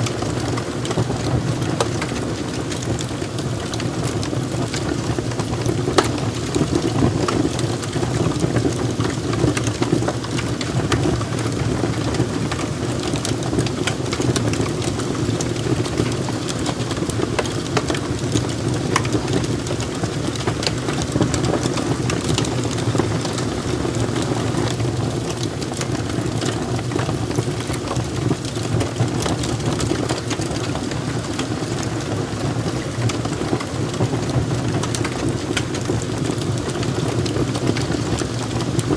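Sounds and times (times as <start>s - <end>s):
burning wood crackling and popping: 0.0s - 38.9s
low rush of flames: 0.0s - 38.9s.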